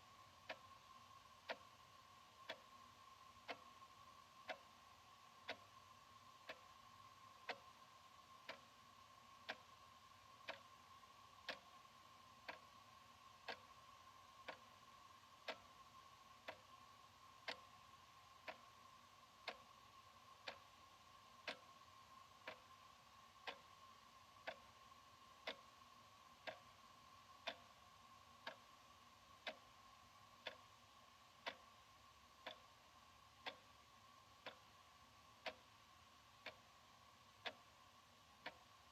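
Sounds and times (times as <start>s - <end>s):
wall clock ticking: 0.0s - 38.9s.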